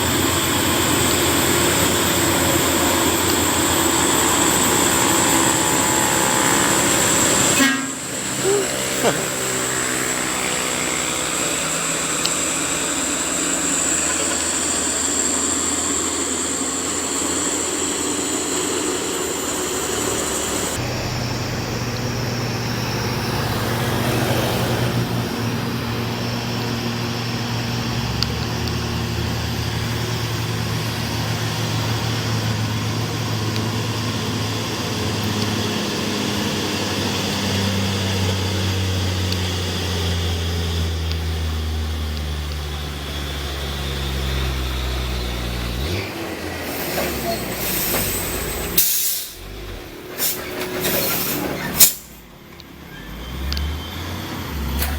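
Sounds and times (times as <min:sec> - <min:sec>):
heavy diesel truck engines: 0:00.0 - 0:54.9
traffic noise: 0:00.0 - 0:54.9.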